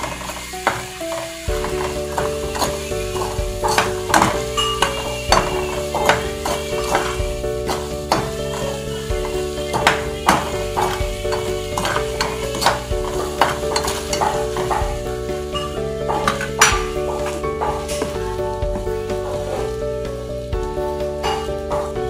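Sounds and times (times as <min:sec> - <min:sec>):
background music: 0:00.0 - 0:22.0
food sizzling in oil: 0:00.0 - 0:22.0
metal ladle scraping wok: 0:00.0 - 0:22.0.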